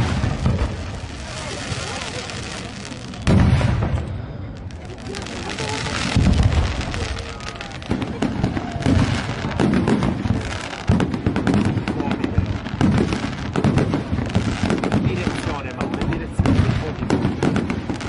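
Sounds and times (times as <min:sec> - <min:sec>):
firework shells booming: 0:00.0 - 0:18.0
fireworks crackling: 0:00.0 - 0:18.0.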